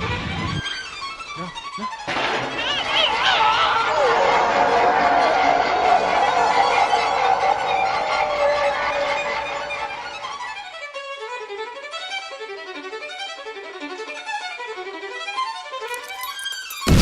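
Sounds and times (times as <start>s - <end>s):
violin music: 0.4s - 16.0s.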